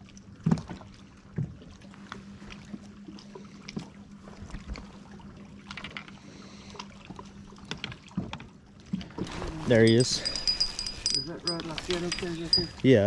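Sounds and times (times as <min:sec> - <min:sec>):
water lapping at hull: 0:00.0 - 0:13.0.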